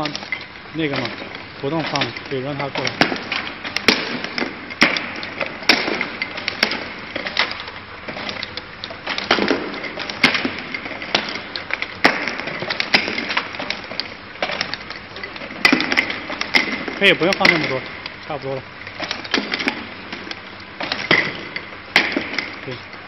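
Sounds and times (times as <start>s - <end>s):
labeling machine running: 0.0s - 23.0s.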